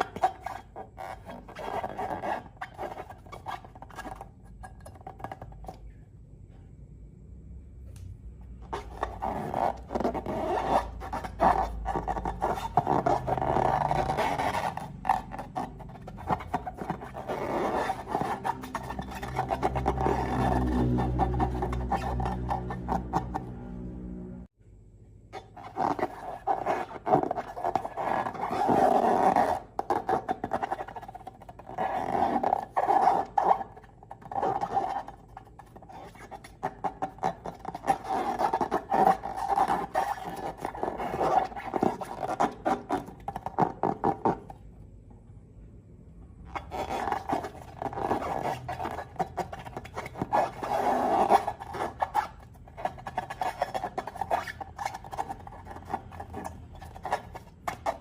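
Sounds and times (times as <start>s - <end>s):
squeaky slime tones: 0.0s - 5.9s, 8.5s - 24.0s, 25.3s - 44.7s, 46.4s - 58.0s.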